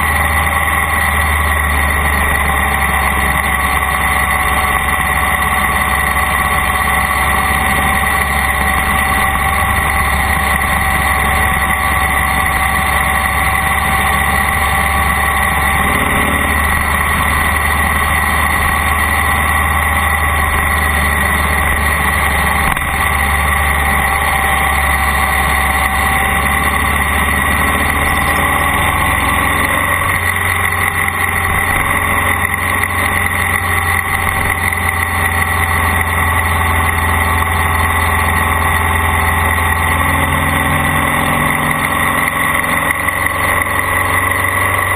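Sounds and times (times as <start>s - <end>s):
vehicle engine humming: 0.0s - 44.9s.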